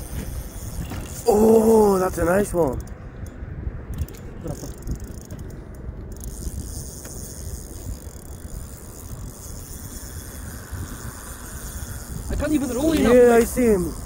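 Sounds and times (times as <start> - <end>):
fishing reel gears whirring: 0.0 - 14.0.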